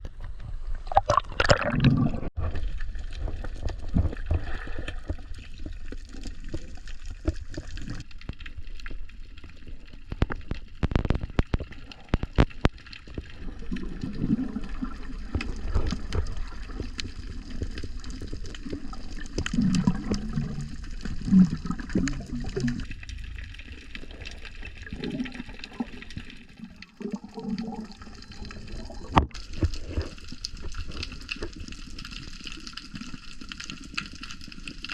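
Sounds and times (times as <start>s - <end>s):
seawater sloshing and gurgling: 0.3s - 8.1s, 9.2s - 34.9s.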